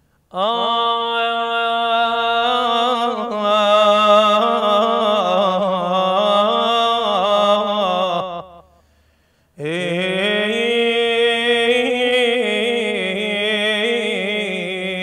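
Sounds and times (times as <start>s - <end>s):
man chanting a lament: 0.3s - 8.7s, 9.6s - 15.0s.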